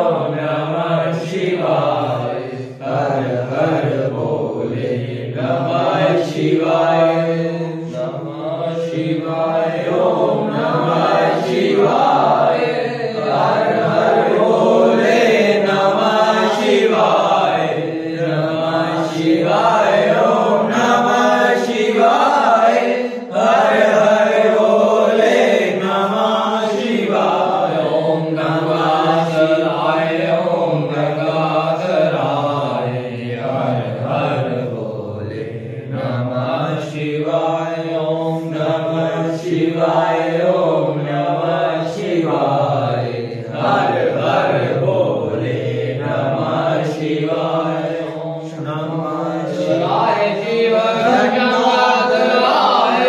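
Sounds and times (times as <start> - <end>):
group chanting devotional song: 0.0 - 53.0.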